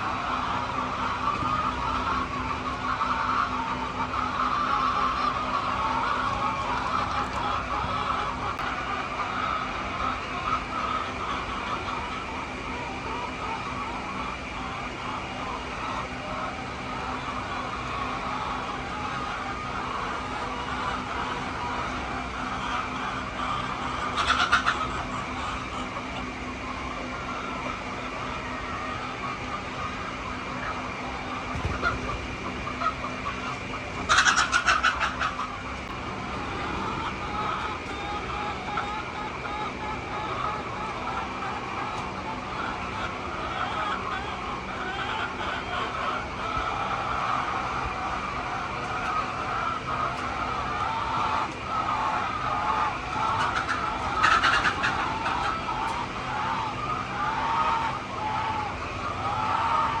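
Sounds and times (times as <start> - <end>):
hens clucking: 0.0 - 60.0.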